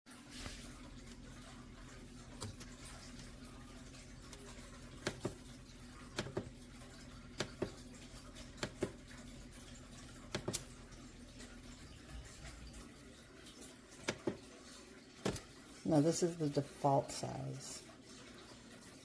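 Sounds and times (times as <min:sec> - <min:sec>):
low steady hum: 0:00.1 - 0:19.0.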